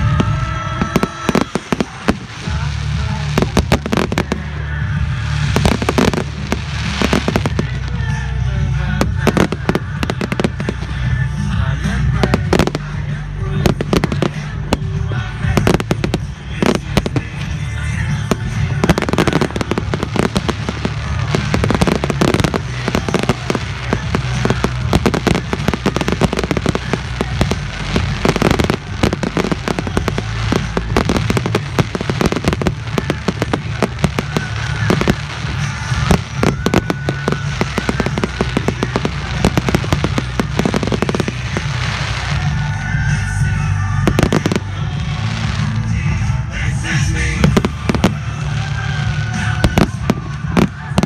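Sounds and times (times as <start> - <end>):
fireworks bangs and crackling: 0.0 - 51.0
music playing: 0.0 - 51.0.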